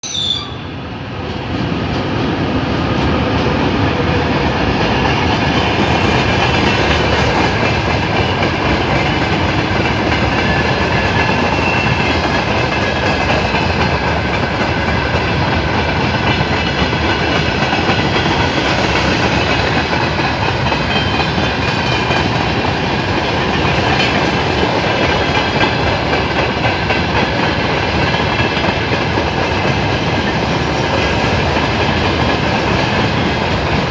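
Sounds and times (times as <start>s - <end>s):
train wheels clattering on track: 1.2s - 33.9s.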